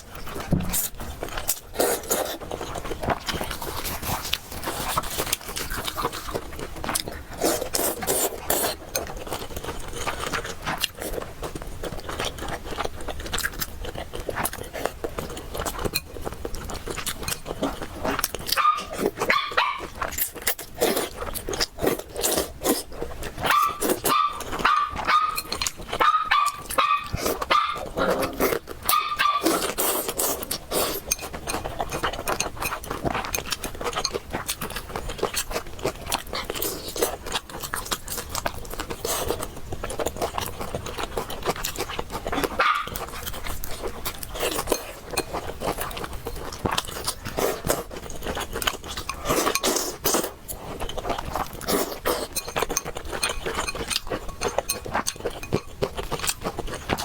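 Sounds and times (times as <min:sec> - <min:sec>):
slurping and chewing noodles: 0:00.0 - 0:57.0.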